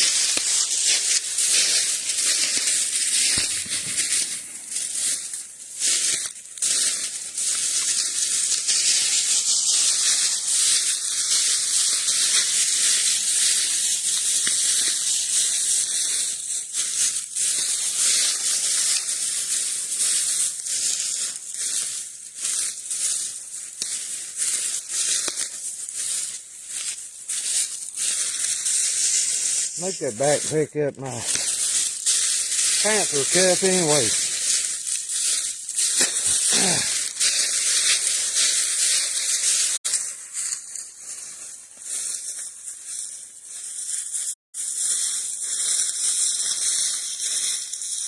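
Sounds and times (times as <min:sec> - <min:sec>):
footsteps crunching through dry leaves: 0:00.0 - 0:48.0.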